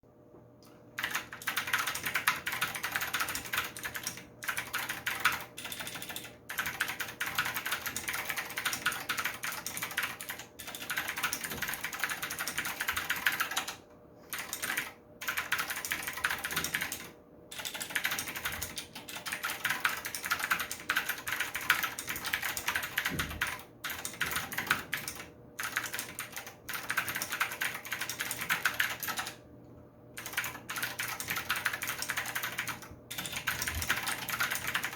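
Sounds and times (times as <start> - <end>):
fast mechanical keyboard typing: 1.0 - 29.4, 30.2 - 34.9.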